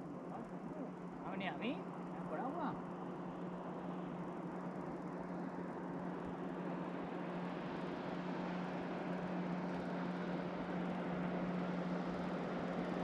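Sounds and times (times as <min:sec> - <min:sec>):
electric trolling motor humming: 0:00.0 - 0:13.0.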